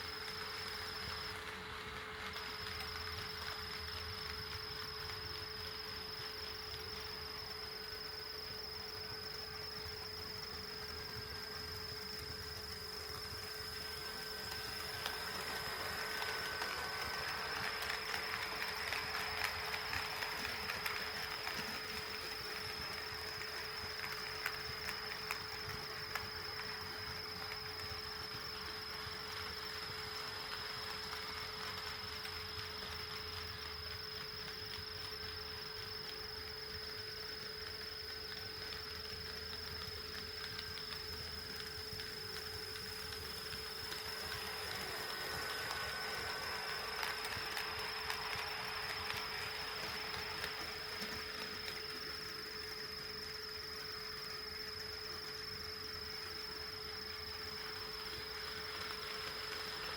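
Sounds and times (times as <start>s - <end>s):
high-pitched electrical whine: 0.0s - 59.9s.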